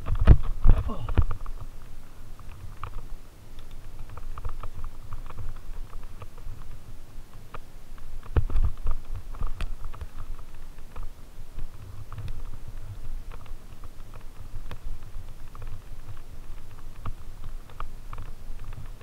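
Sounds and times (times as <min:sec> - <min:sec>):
bike rattling: 0:00.0 - 0:19.0
leaves crackling under bike tyres: 0:00.0 - 0:19.0.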